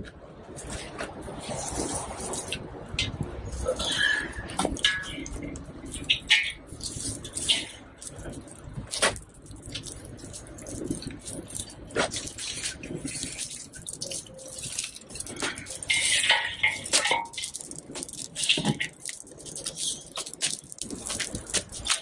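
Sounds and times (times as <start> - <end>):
twigs crackling in fire: 0.5 - 22.0
sticks rustling and snapping: 0.6 - 22.0.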